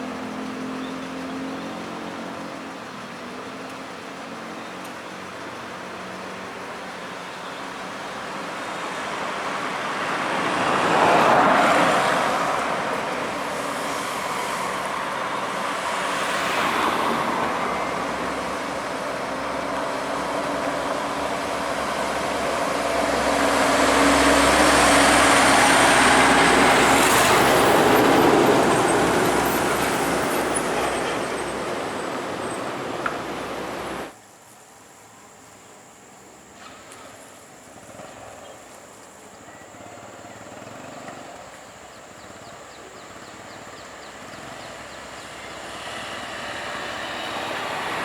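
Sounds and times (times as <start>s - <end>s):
vehicles passing by: 0.0s - 34.1s, 39.7s - 48.0s.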